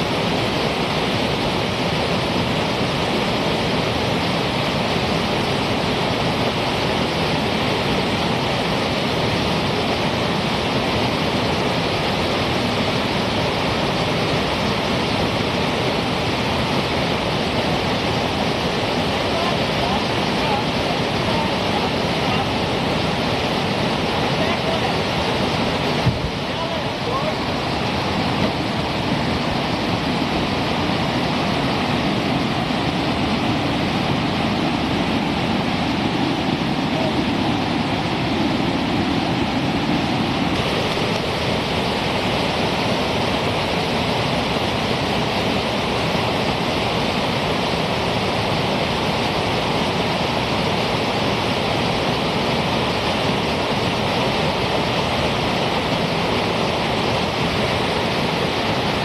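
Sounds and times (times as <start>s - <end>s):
whitewater rushing over rocks: 0.0s - 59.0s.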